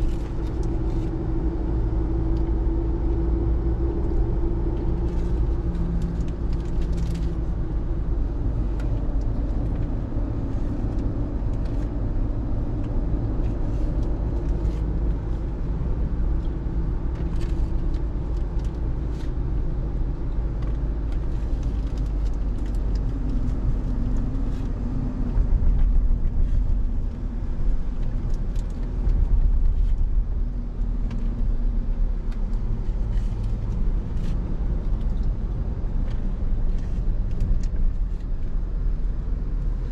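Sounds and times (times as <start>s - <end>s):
road noise inside car cabin: 0.0s - 39.9s.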